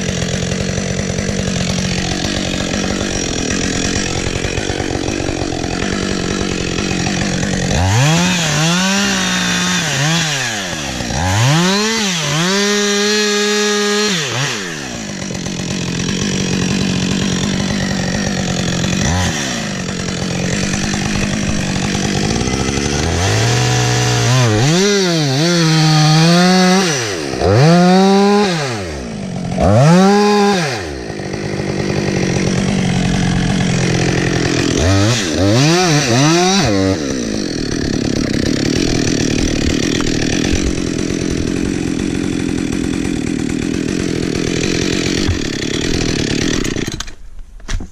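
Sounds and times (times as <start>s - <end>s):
chainsaw revving and idling: 0.0s - 47.2s.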